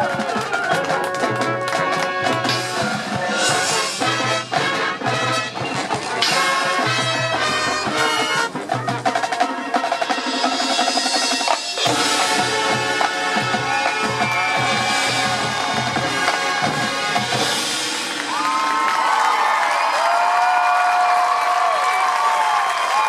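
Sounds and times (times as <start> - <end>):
sharp percussion strikes: 0.0 - 18.8
brass and woodwinds: 0.0 - 19.2
marching band playing: 0.0 - 19.3
drum line: 0.0 - 21.4.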